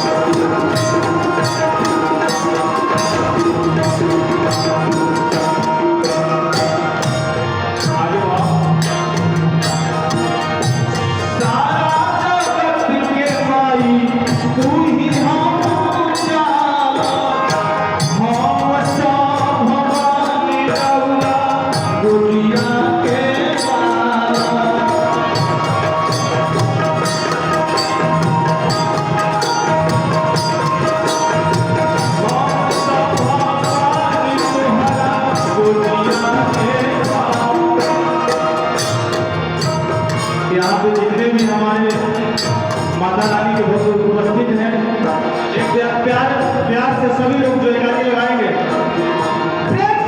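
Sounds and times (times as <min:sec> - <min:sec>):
hand percussion with jingles: 0:00.0 - 0:47.9
melody instrument with held notes: 0:00.0 - 0:49.8.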